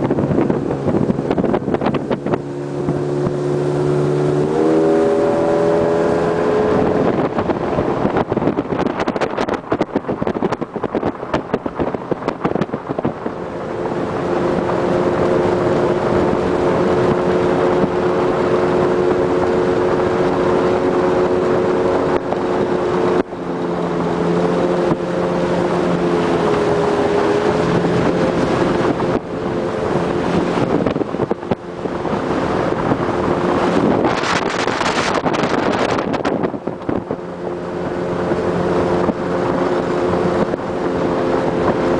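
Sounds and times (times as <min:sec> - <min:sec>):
motorboat engine running: 0:00.0 - 0:41.9
wind buffeting microphone: 0:00.0 - 0:41.9.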